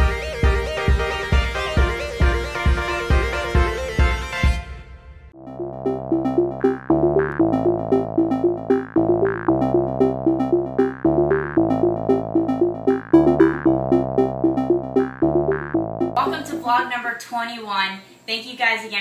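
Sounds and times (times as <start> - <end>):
electronic synthesizer music: 0.0 - 4.8, 5.4 - 16.9.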